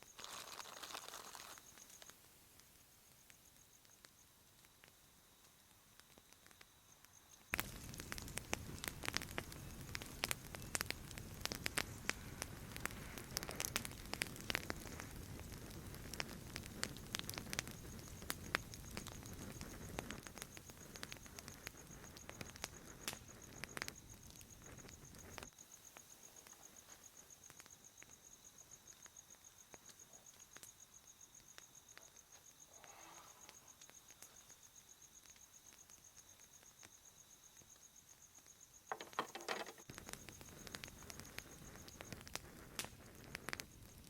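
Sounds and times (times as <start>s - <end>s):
campfire crackling and popping: 0.0s - 32.8s, 33.4s - 44.0s
crickets chirping: 0.0s - 44.0s.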